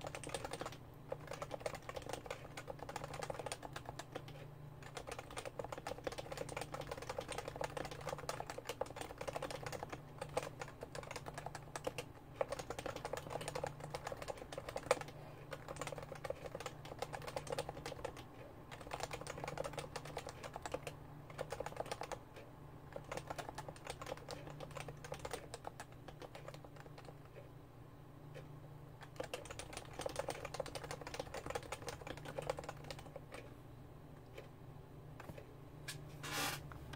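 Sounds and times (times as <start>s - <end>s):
soft keyboard keystrokes: 0.0s - 27.5s, 28.3s - 33.5s
low steady hum: 0.0s - 36.9s.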